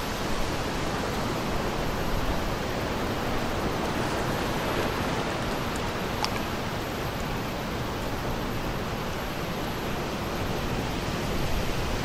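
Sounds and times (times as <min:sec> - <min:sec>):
small waves at breakwater: 0:00.0 - 0:12.0
wind blowing across microphone: 0:00.0 - 0:12.0.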